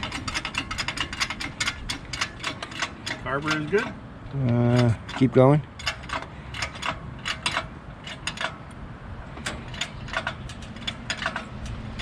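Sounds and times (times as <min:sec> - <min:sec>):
metal clicks of hoist chain: 0:00.0 - 0:08.8, 0:09.4 - 0:12.0
steady low rumble: 0:00.0 - 0:12.0.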